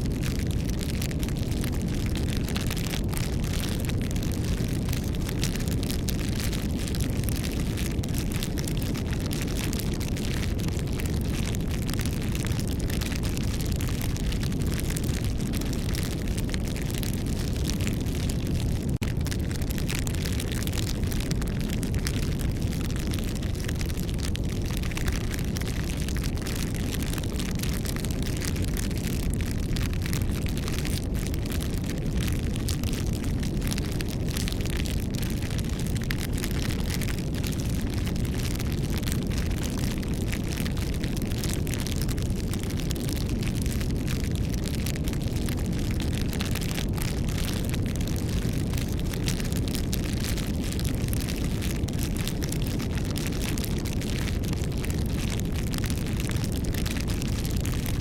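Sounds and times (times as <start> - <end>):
burning wood crackling: 0.0 - 57.8
campfire flames rumbling: 0.0 - 58.0.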